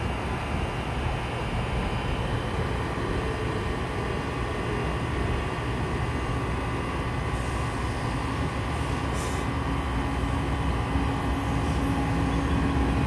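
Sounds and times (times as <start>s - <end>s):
distant diesel locomotive rumble: 0.0s - 13.0s.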